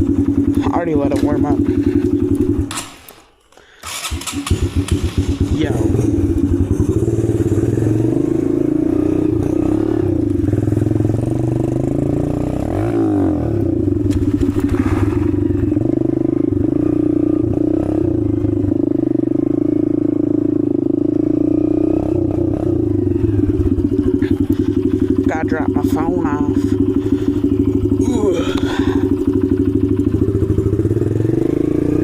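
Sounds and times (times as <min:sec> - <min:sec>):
dirt bike engine idling: 0:00.0 - 0:03.0, 0:03.8 - 0:32.0.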